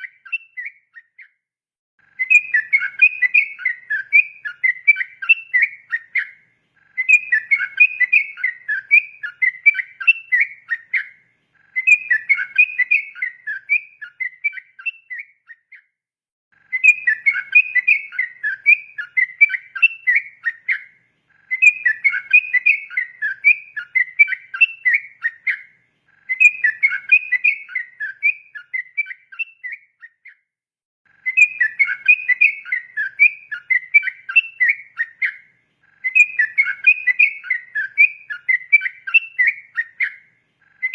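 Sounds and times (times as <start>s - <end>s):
bulbul singing: 0.0s - 1.4s, 2.0s - 15.9s, 16.6s - 30.4s, 31.1s - 40.9s.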